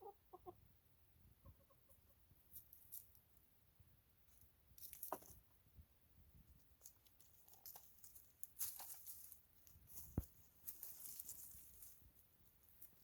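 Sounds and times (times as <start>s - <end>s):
chickens foraging through litter: 1.2s - 13.0s.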